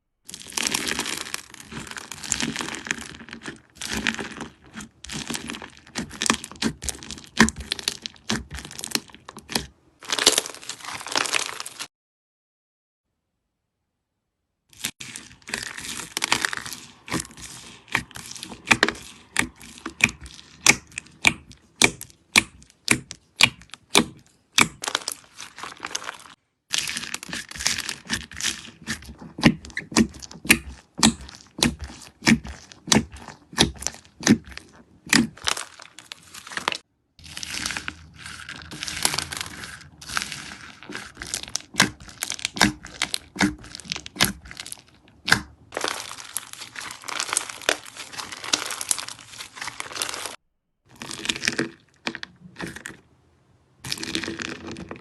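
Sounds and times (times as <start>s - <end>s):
slime popping and crackling: 0.2s - 11.9s, 14.7s - 53.0s, 53.8s - 55.0s.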